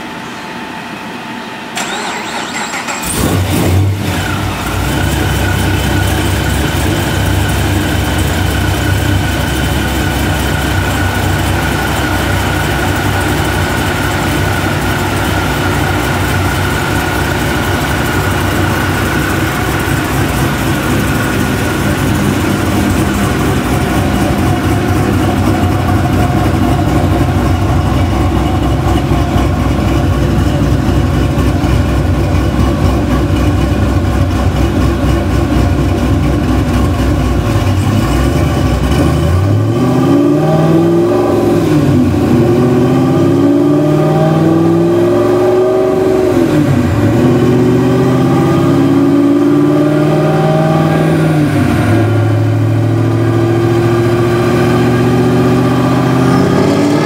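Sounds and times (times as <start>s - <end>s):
car engine starting and idling: 1.7s - 57.0s.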